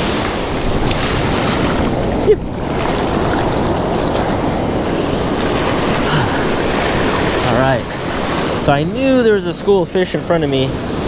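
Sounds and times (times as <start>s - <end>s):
ocean surf washing up beach: 0.0s - 11.0s
wind buffeting microphone: 0.0s - 11.0s.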